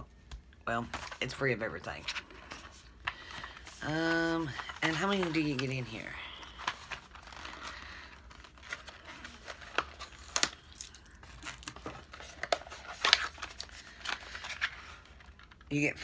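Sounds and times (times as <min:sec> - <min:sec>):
packaging crinkling and rustling: 0:00.8 - 0:15.7.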